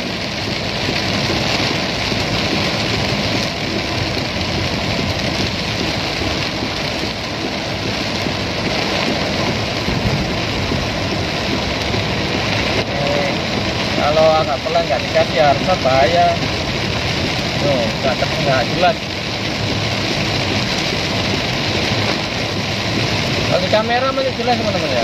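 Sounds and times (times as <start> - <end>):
car engine and road noise: 0.0 - 25.0
heavy rain on car roof: 0.0 - 25.0.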